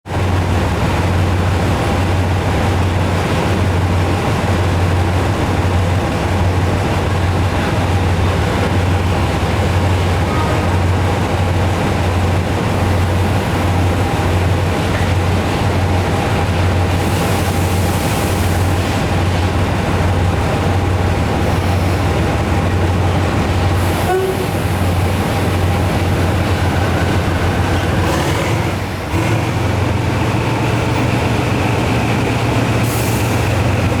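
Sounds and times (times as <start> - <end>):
locomotive diesel engine drone: 0.1 - 34.0.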